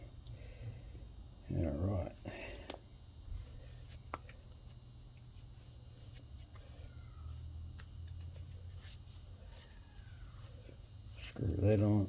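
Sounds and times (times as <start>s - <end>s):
low hum: 0.0s - 12.0s
insect chirring: 2.2s - 12.0s.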